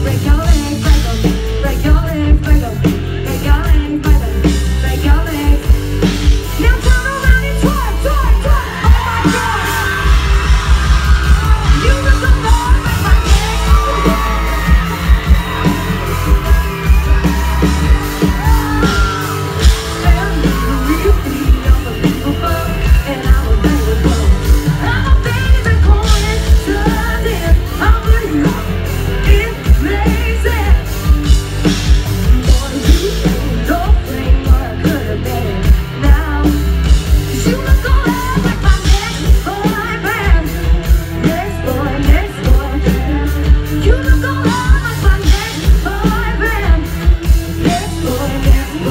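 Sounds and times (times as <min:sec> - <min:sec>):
woman singing into microphone: 0:00.0 - 0:10.3, 0:11.2 - 0:16.6, 0:17.2 - 0:31.0, 0:32.2 - 0:48.9
country-pop band playing: 0:00.0 - 0:48.9
heavy drum beat: 0:00.0 - 0:48.9.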